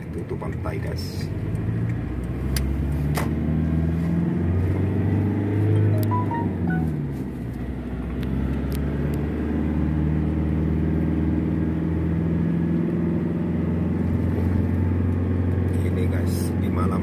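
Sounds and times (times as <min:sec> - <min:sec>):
car engine and tyre hum: 0:00.0 - 0:17.0.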